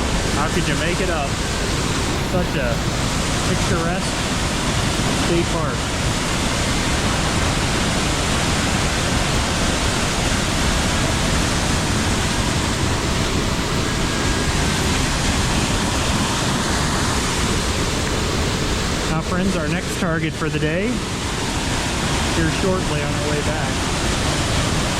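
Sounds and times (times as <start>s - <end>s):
waterfall roaring: 0.0s - 24.9s.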